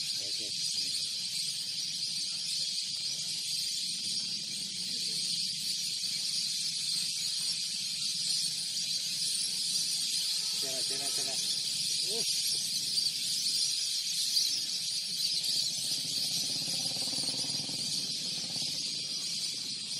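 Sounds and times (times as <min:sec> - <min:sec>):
steady high-pitched hiss: 0:00.0 - 0:19.9.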